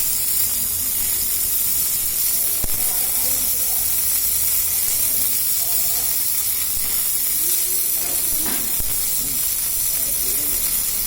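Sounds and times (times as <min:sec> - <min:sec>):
welding hiss and sizzle: 0:00.0 - 0:11.0.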